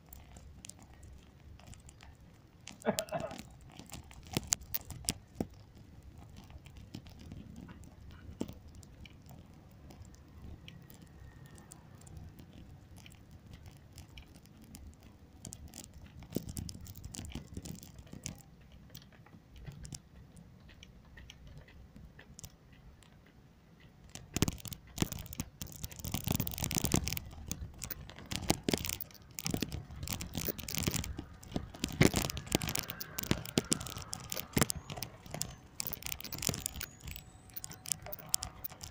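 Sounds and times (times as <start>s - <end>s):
crackling rubbing on microphone: 0.0s - 22.7s, 24.0s - 38.9s.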